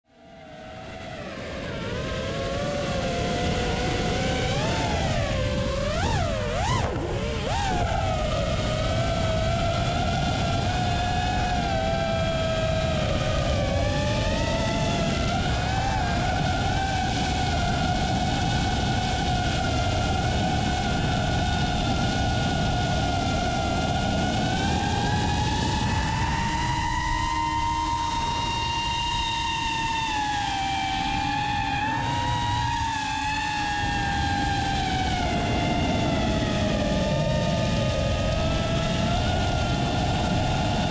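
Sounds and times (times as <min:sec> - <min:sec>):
quadcopter motors whining: 0:00.1 - 0:40.9
wind rush on microphone: 0:00.1 - 0:40.9.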